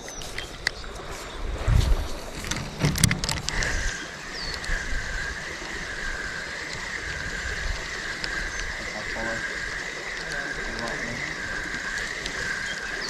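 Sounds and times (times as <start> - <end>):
fishing reel whining: 2.1 - 13.0.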